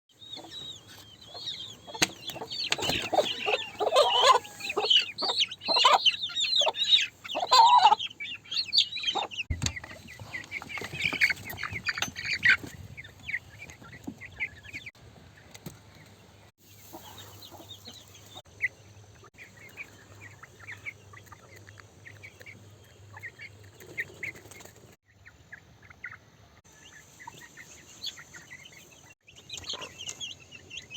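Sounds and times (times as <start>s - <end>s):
chickens clucking: 0.2s - 30.9s.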